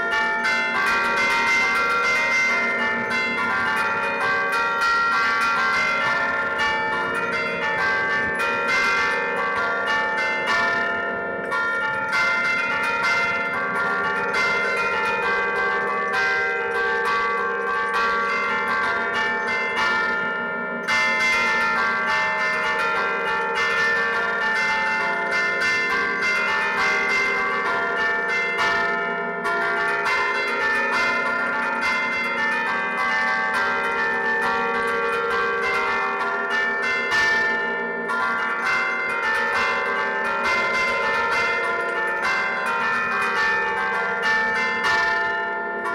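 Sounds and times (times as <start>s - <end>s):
church bells playing a tune: 0.0s - 45.9s.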